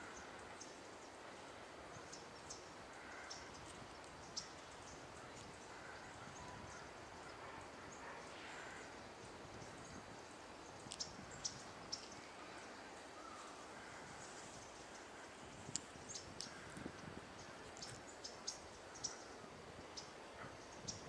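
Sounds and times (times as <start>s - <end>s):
faint outdoor ambience: 0.0s - 21.0s.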